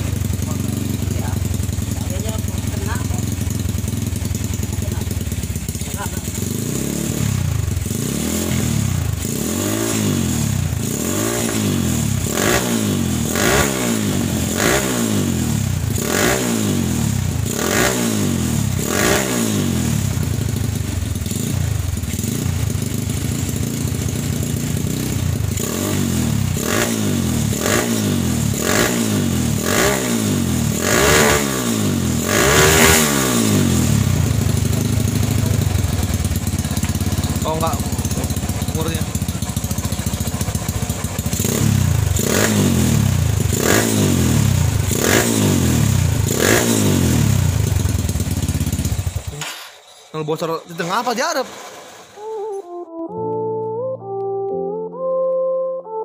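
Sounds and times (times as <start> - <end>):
motorcycle engine revving: 0.0 - 52.4.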